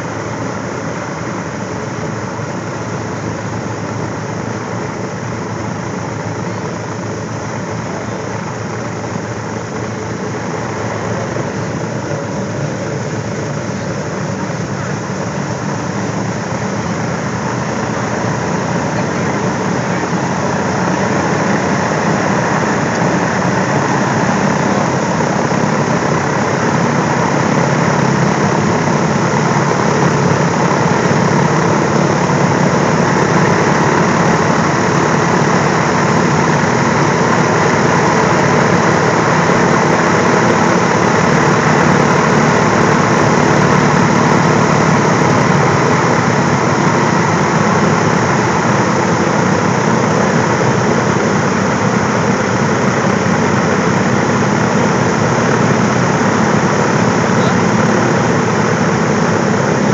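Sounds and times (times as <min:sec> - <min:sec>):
aircraft engines droning: 0:00.0 - 0:59.9.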